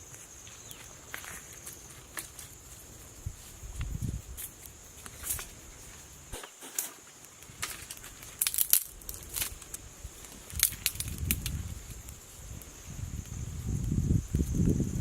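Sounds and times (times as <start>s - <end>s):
dry wood snapping and crackling: 1.1s - 2.6s, 3.8s - 14.6s.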